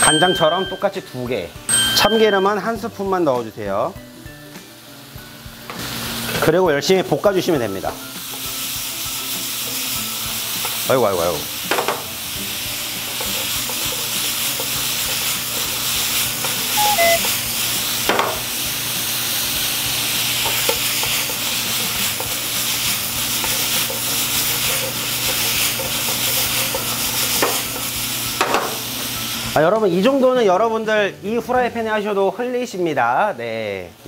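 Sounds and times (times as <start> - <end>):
food sizzling in frying pan: 0.0 - 34.0.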